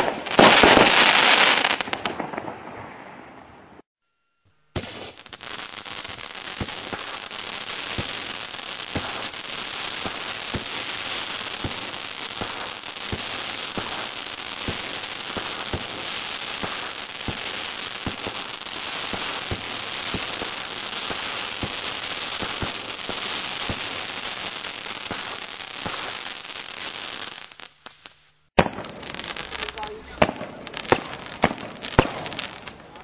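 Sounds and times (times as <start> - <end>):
firework crackling and popping: 0.0 - 3.8, 4.7 - 33.0.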